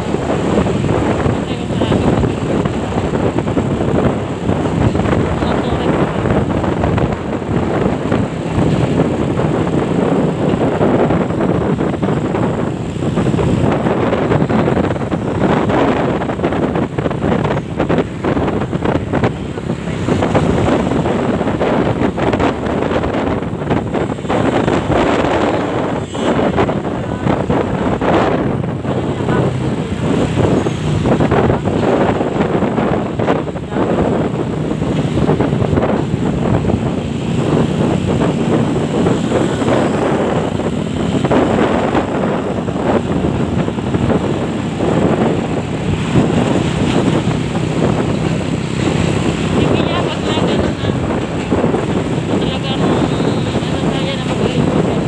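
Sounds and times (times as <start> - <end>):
motorcycle engine: 0.0 - 55.0
traffic and trucks: 0.0 - 55.0
wind buffeting microphone: 0.0 - 55.0.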